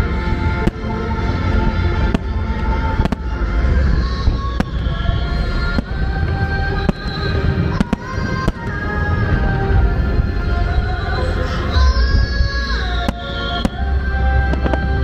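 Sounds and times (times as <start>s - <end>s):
low rumble: 0.0s - 15.0s
music with sustained notes: 0.0s - 15.0s
fireworks bursting: 0.6s - 13.8s, 14.4s - 15.0s.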